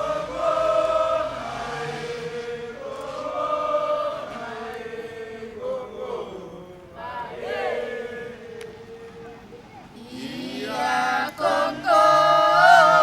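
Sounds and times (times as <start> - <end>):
voices chanting in long notes: 0.0 - 13.0.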